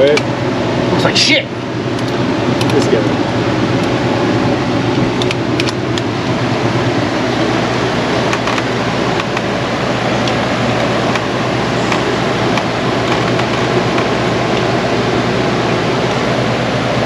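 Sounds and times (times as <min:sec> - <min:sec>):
steady rushing hum: 0:00.0 - 0:17.0.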